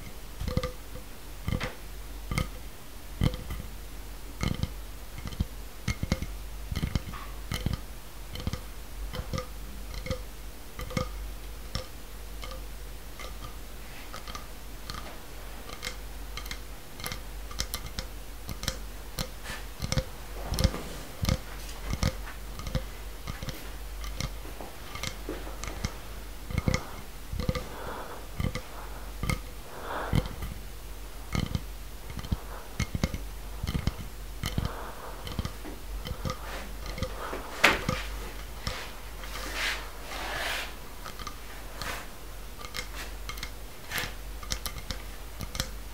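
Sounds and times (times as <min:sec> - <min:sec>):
sharp clicks and pops: 0:00.0 - 0:02.6, 0:03.2 - 0:03.7, 0:04.4 - 0:30.6, 0:31.2 - 0:39.4, 0:41.0 - 0:45.9
low hum: 0:00.0 - 0:45.9.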